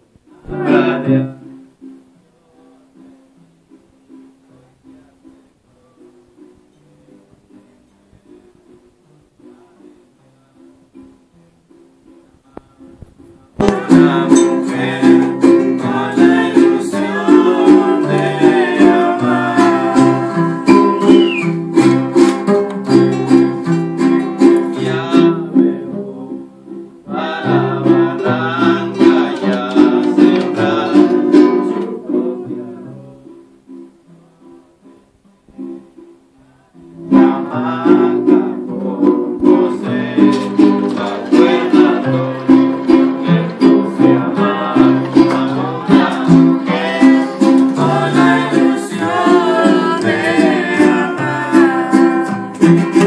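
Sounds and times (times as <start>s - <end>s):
acoustic guitar: 0.0s - 53.0s
strummed string instrument: 0.0s - 53.0s
person singing: 0.2s - 3.4s, 12.3s - 35.0s, 36.4s - 53.0s.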